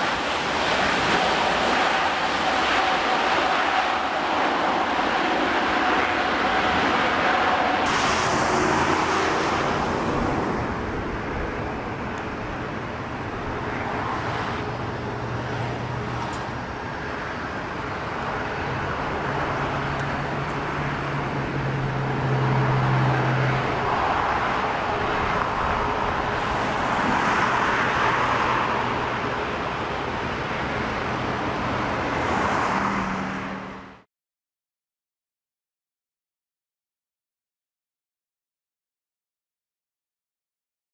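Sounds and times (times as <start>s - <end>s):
jet engines roaring: 0.0s - 34.0s
road traffic: 0.0s - 34.1s.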